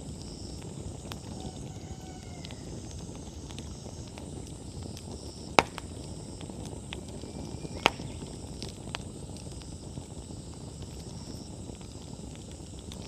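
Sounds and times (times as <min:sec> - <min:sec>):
bonfire crackling: 0:00.0 - 0:13.0
loud sharp fire pops: 0:00.0 - 0:13.0.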